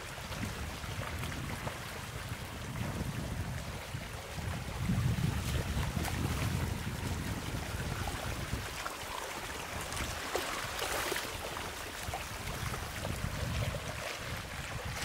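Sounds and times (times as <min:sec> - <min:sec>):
floodwater splashing and trickling: 0:00.0 - 0:15.0
wind rumbling on microphone: 0:00.0 - 0:15.0.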